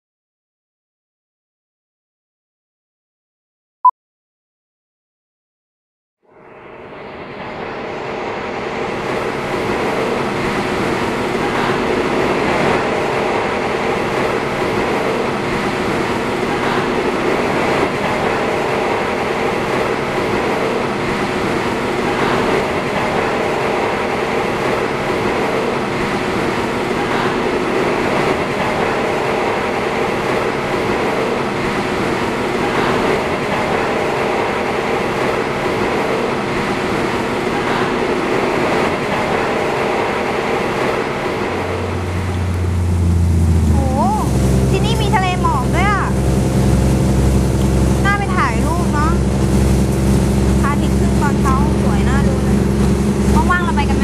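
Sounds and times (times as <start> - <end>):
train carriage rumble and hum: 6.3 - 54.0
wheels clacking on rails: 8.6 - 54.0.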